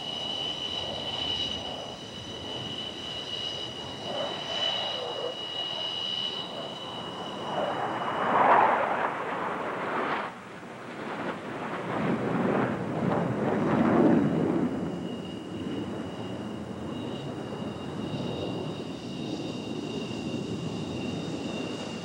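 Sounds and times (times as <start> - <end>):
thin high jet whine: 0.0 - 10.4, 13.0 - 22.0
jet fighters flying past: 0.0 - 22.0.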